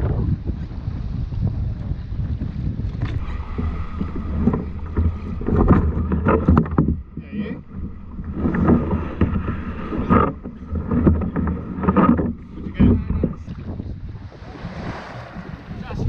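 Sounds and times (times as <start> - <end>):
wind rumble on microphone: 0.0 - 16.0
paddle splashing in water: 0.5 - 16.0.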